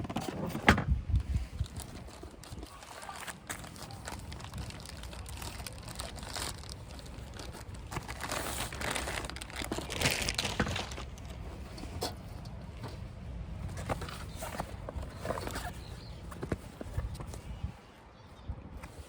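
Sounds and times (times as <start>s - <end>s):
material rustling and crinkling: 0.0s - 17.8s.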